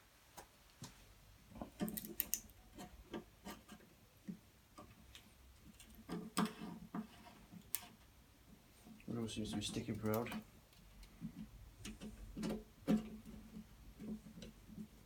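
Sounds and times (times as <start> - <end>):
light clicks and taps of hand work: 0.4 - 8.0, 9.0 - 15.0.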